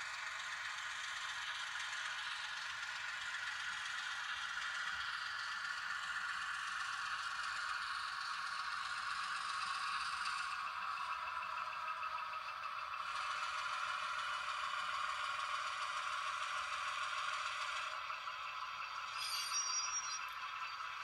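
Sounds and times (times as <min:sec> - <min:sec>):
model train rattling on track: 0:00.0 - 0:21.0.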